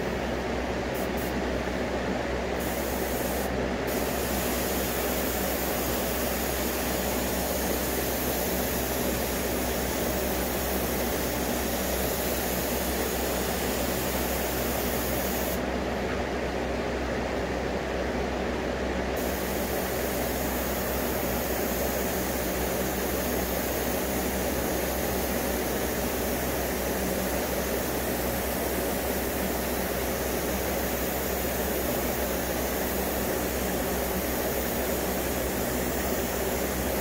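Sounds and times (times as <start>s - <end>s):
airbrush spraying hiss: 1.0s - 1.4s, 2.6s - 15.6s, 19.2s - 37.0s.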